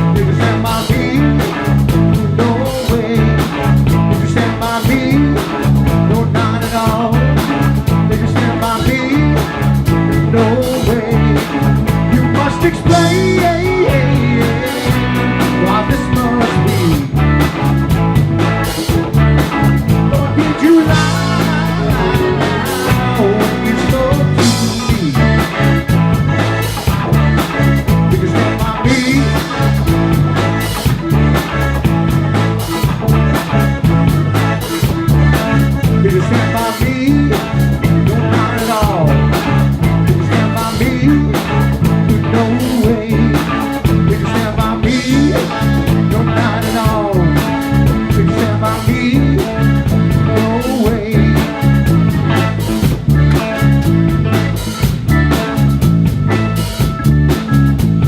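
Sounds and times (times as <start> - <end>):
driving bass line: 0.0 - 58.0
drum kit: 0.0 - 58.0.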